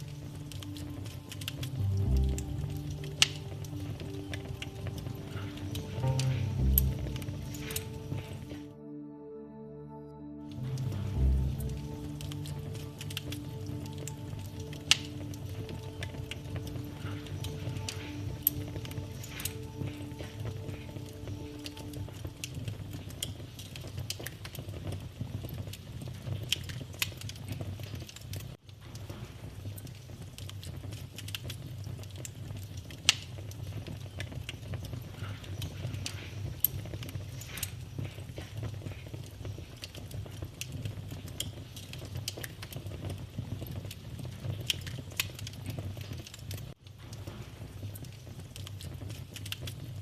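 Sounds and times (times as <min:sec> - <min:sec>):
wood fire crackling and popping: 0:00.0 - 0:08.7, 0:10.5 - 0:50.0
low rumble of flames: 0:00.0 - 0:08.8, 0:10.4 - 0:50.0.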